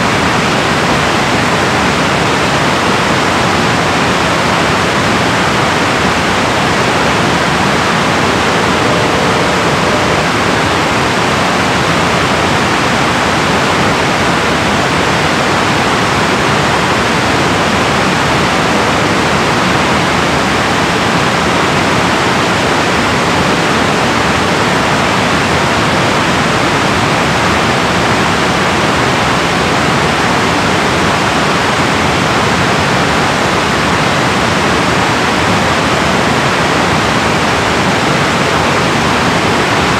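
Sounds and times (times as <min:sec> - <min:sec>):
water rushing through dam: 0:00.0 - 0:39.9.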